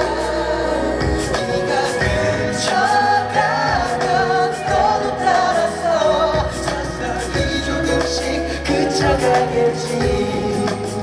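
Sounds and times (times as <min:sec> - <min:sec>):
backing track with bass and drums: 0:00.0 - 0:11.0
men singing pop live: 0:00.0 - 0:11.0.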